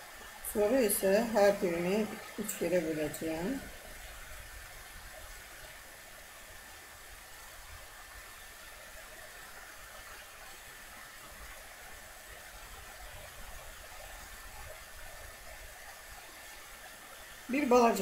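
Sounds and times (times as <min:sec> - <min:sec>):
low background hiss: 0:00.0 - 0:18.0.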